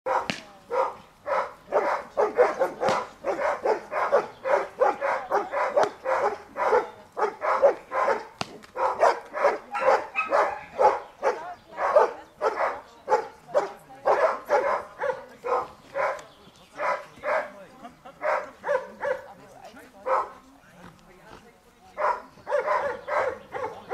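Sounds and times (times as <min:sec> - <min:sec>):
dog barking: 0:00.1 - 0:16.2, 0:16.8 - 0:17.6, 0:18.2 - 0:19.4, 0:20.0 - 0:20.4, 0:22.0 - 0:23.9.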